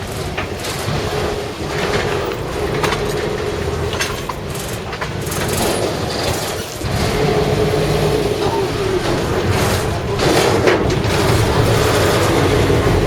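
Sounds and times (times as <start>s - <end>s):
boat engine droning: 0.0s - 13.0s
clicks and knocks: 0.0s - 13.0s.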